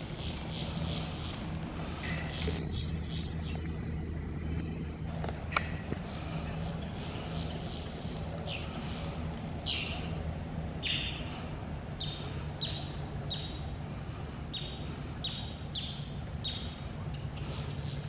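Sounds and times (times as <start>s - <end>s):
high falling bird calls: 0.0s - 13.8s, 14.4s - 18.0s
steady low hum: 0.0s - 18.0s.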